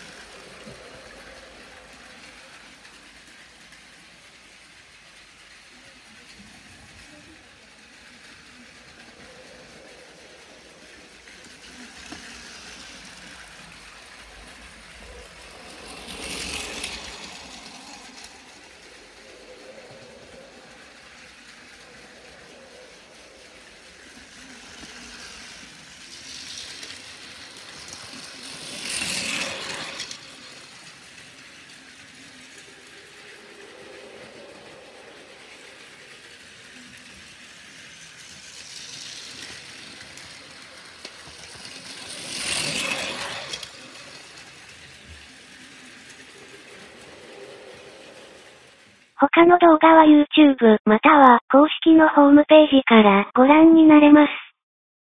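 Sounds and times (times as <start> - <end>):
toy train motor whirring: 0.0 - 49.2
toy train wheels rattling: 0.0 - 49.2.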